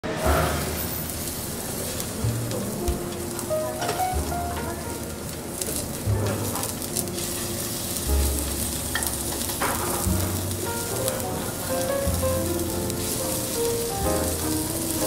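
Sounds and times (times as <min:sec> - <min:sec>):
chicken skewers sizzling over charcoal: 0:00.0 - 0:15.0.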